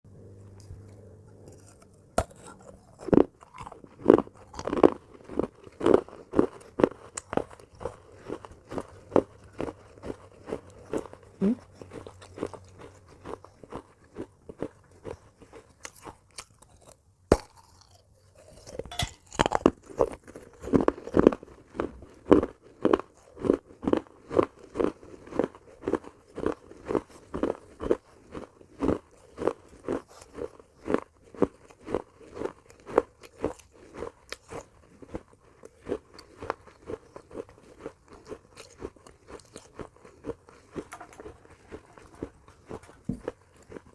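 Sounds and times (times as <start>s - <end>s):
crunching of clay being chewed: 0.3s - 43.9s.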